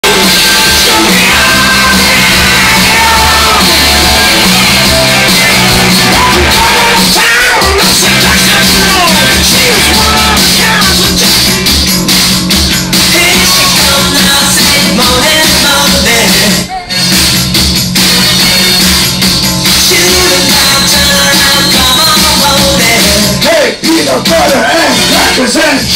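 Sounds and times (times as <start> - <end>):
loud music with singing: 0.0 - 25.9
pulsing bass line: 0.0 - 25.9.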